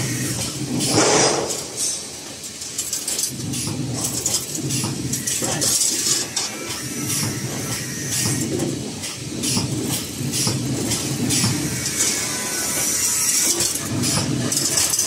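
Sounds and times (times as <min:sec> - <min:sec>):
rapid clicks and clanks: 0:00.0 - 0:15.0
wire bending machine running: 0:00.0 - 0:15.0.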